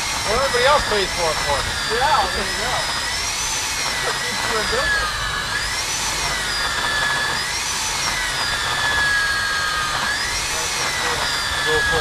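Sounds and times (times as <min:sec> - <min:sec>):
core drill motor whine: 0:00.0 - 0:12.0
drill grinding through concrete: 0:00.0 - 0:12.0.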